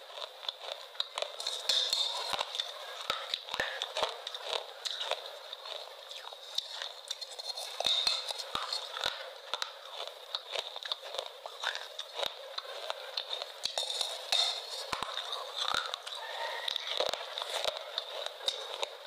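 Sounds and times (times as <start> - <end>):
crisp crunching and chewing: 0.0 - 19.0.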